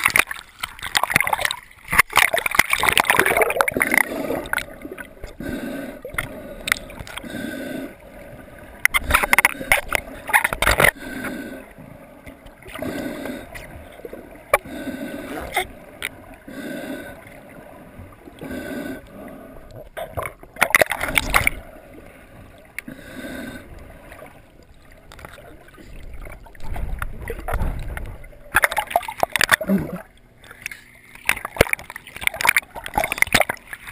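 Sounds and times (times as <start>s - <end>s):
underwater gurgling and swishing: 0.0s - 33.9s.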